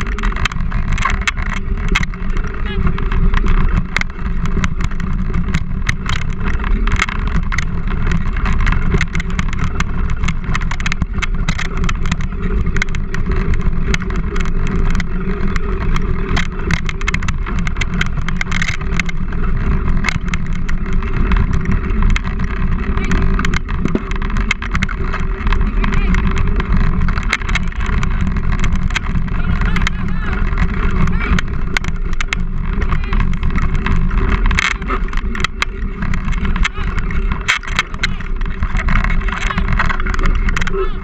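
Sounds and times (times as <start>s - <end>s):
bike rattling over bumps: 0.0s - 41.0s
bike tyres rumbling on dirt: 0.0s - 41.0s.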